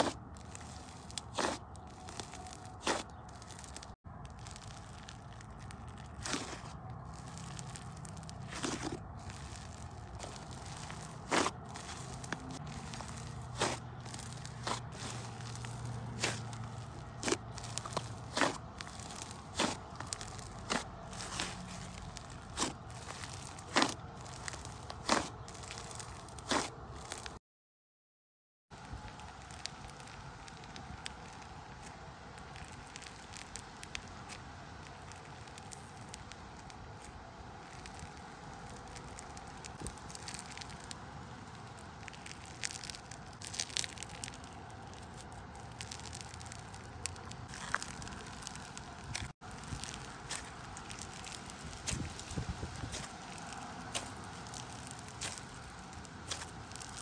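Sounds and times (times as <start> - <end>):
slime crackling pops: 0.0 - 27.3, 37.6 - 41.0, 41.8 - 57.0.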